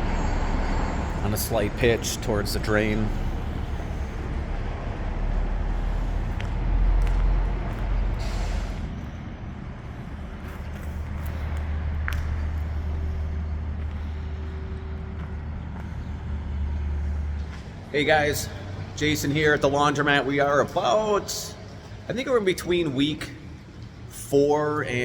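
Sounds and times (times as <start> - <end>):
low engine hum: 0.0 - 20.4
heavy vehicle rumble: 0.0 - 24.2.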